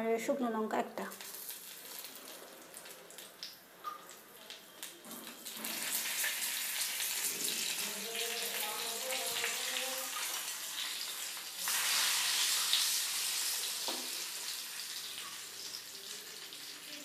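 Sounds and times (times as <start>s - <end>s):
spices sizzling in hot oil: 1.1s - 17.0s.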